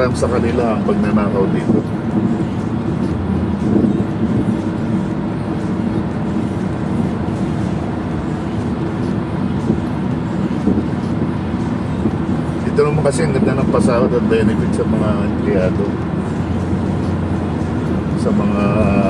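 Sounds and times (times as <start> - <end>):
car road and engine drone: 0.0 - 19.0.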